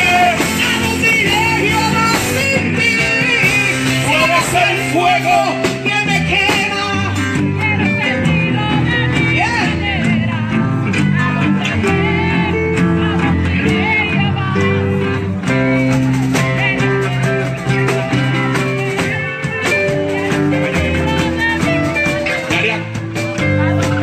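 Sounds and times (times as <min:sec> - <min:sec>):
live band music: 0:00.0 - 0:24.0.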